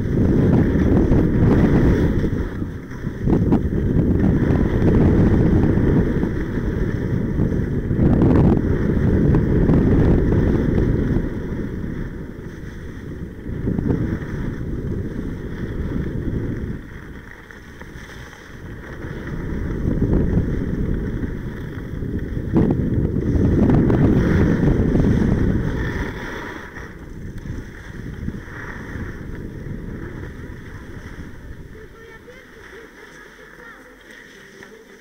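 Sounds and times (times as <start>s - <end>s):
wind buffeting microphone: 0.0s - 33.4s.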